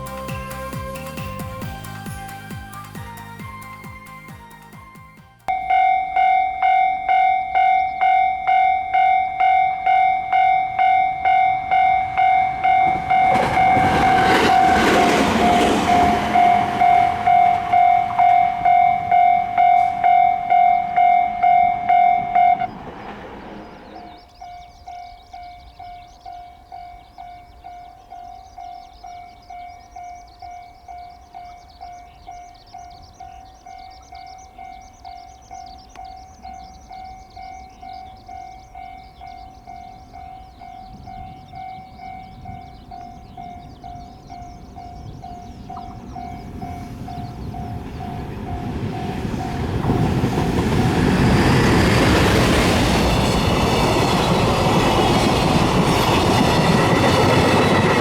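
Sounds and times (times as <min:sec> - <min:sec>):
train passing loudly: 0:00.0 - 0:58.0
level crossing warning bell: 0:05.4 - 0:58.0.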